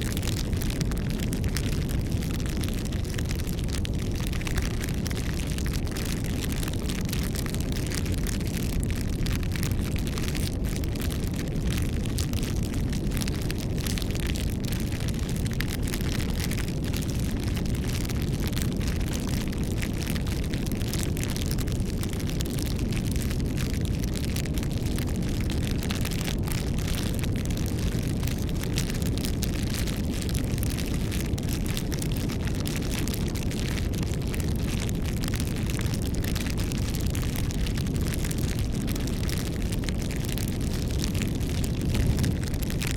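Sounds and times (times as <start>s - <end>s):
flames rushing: 0.0s - 42.9s
wood crackling and popping: 0.0s - 42.9s.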